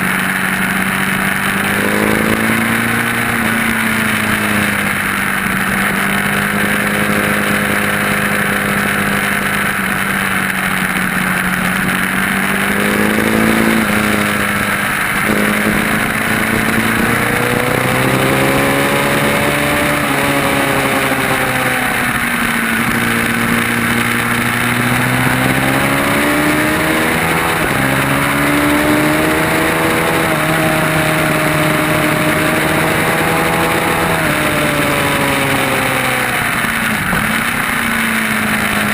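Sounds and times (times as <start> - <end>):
racing motorcycle engine: 0.0 - 38.9.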